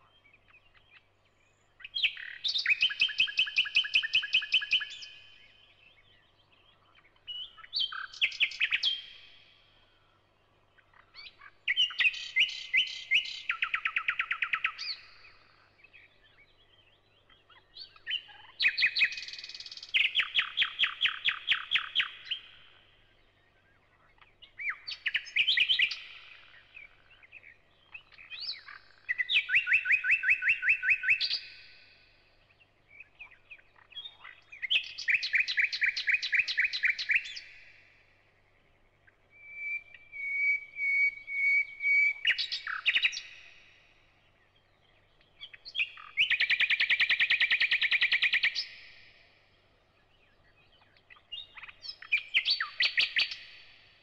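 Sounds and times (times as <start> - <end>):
nightingale singing: 0.0 - 54.0.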